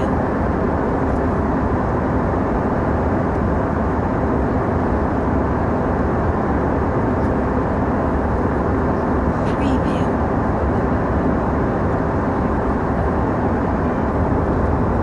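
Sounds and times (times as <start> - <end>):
airliner cabin engine hum: 0.0 - 15.0.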